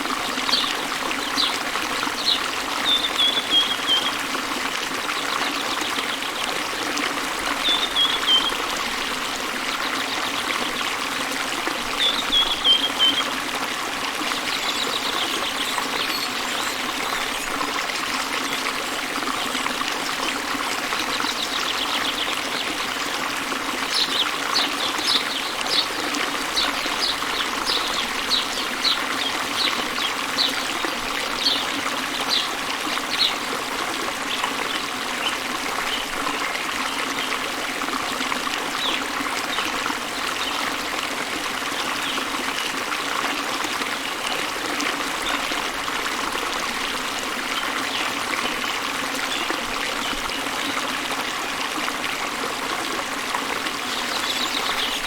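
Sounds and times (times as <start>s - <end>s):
waterfall running: 0.0s - 55.0s.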